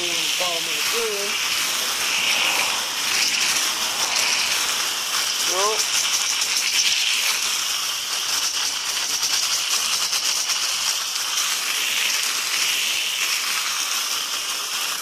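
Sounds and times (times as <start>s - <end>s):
foam gun spraying water on car: 0.0s - 15.0s.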